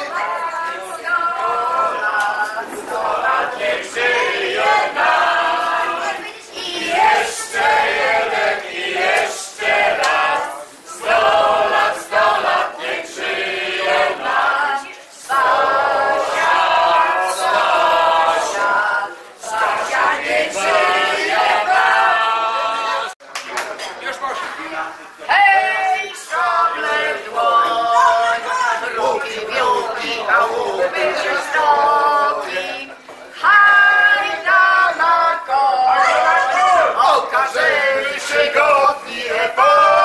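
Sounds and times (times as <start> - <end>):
group singing in chorus: 0.0 - 23.2, 25.3 - 40.0.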